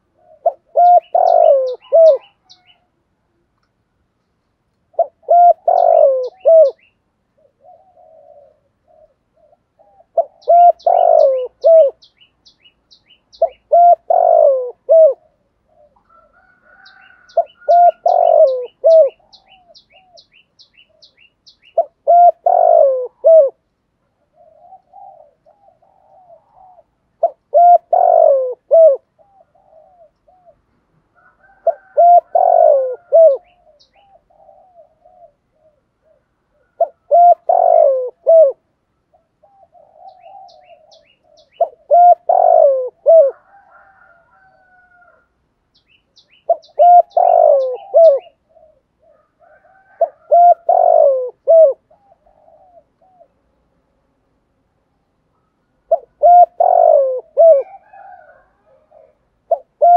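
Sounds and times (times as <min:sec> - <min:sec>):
dove cooing: 0:00.0 - 0:02.9, 0:04.9 - 0:12.6, 0:13.3 - 0:45.3, 0:46.2 - 0:53.6, 0:55.3 - 0:59.9.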